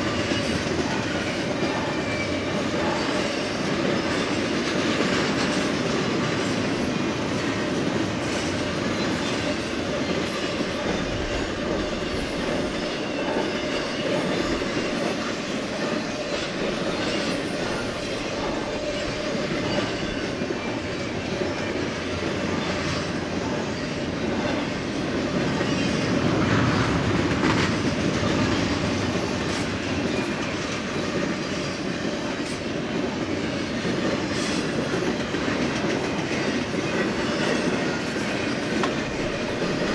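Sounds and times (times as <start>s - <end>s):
freight train passing: 0.0s - 39.9s
locomotive passing: 0.0s - 39.9s
steel wheels on rails: 0.0s - 39.9s.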